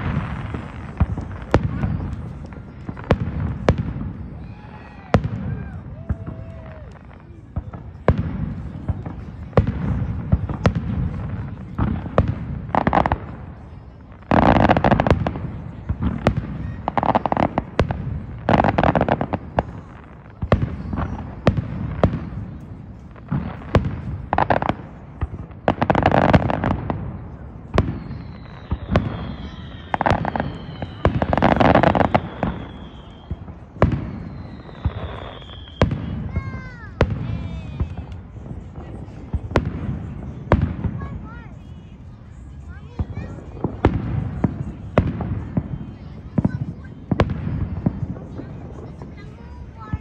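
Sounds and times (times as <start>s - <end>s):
firework bangs: 0.0s - 50.0s
firework crackling: 0.0s - 50.0s
firework whistles: 0.0s - 50.0s.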